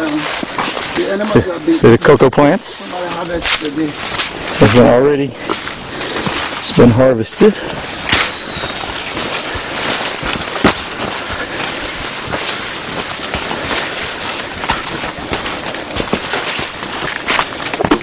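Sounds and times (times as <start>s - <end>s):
leaves rustling against legs: 0.0s - 18.0s
twigs crackling underfoot: 0.0s - 18.0s.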